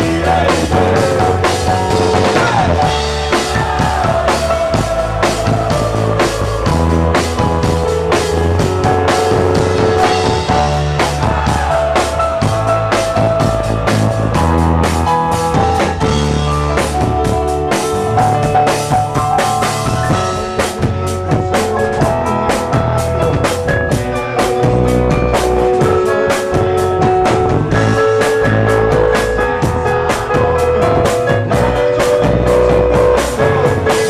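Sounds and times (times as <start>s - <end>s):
drum kit beat: 0.0s - 34.0s
electric guitar: 0.0s - 34.0s
held keyboard notes: 0.0s - 34.0s.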